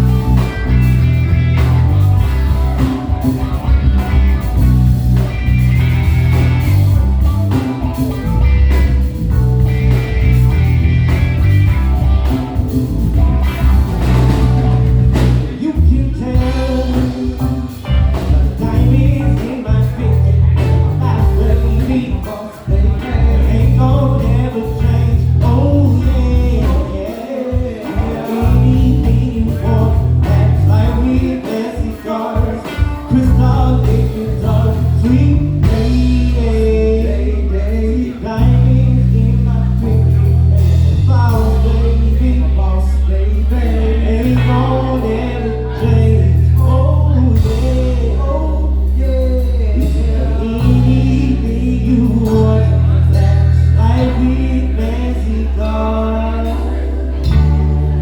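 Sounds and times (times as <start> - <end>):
electric bass notes: 0.0 - 58.0
live band playing: 0.0 - 58.0
person singing: 0.0 - 58.0.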